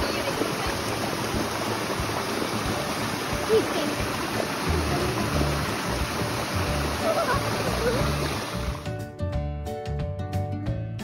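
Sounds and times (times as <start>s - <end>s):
stream rushing over rocks: 0.0s - 8.9s.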